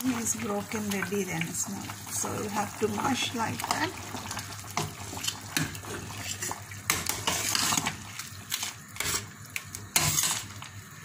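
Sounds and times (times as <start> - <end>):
broth boiling hard in a pot: 0.0 - 11.0.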